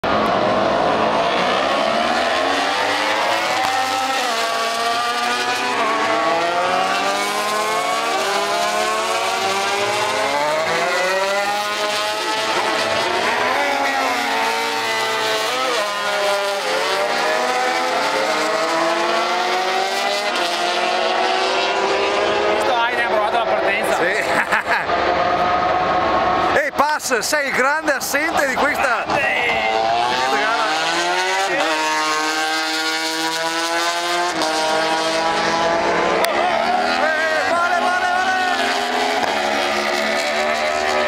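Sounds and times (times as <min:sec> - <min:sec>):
race bikes accelerating: 0:00.0 - 0:41.0.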